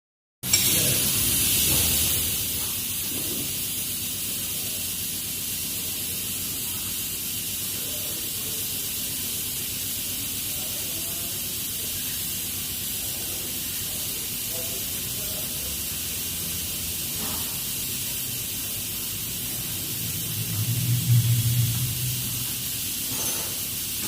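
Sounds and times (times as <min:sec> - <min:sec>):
compressed air hissing: 0:00.5 - 0:24.0.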